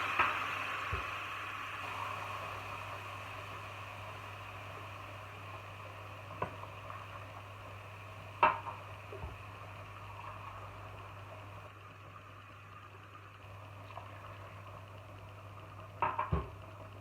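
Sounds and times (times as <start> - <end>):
kitchen hum and hiss: 0.0 - 17.0.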